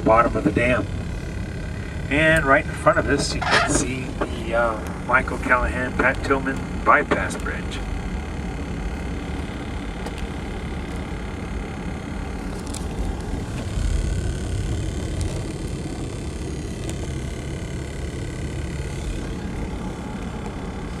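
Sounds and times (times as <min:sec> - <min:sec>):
vehicle engine and road noise: 0:00.7 - 0:21.0.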